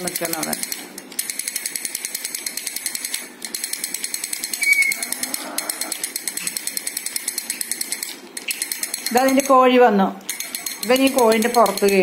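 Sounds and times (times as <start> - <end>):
toy elephant drumming: 1.5 - 9.5, 10.3 - 12.0.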